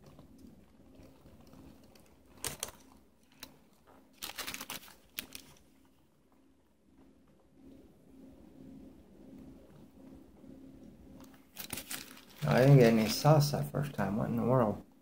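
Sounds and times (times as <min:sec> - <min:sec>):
crunching and chewing food: 0:00.0 - 0:14.5.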